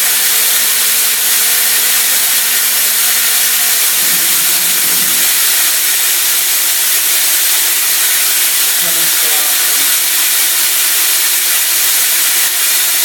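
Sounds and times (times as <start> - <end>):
faint machine hum: 0.0 - 13.0
hiss of coolant spray and cutting: 0.0 - 13.0.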